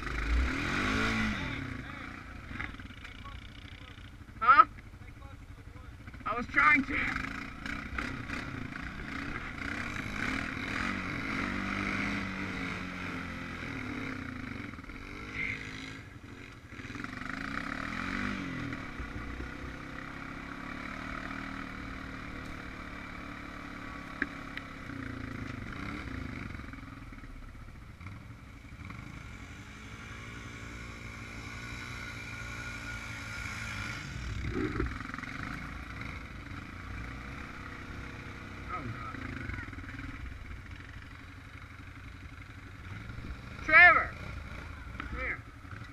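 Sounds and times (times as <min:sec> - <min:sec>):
atv engine revving: 0:00.0 - 0:45.9.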